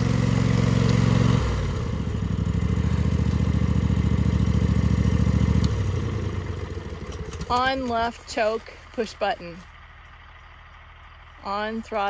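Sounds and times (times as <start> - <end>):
small gasoline engine running: 0.0 - 12.0.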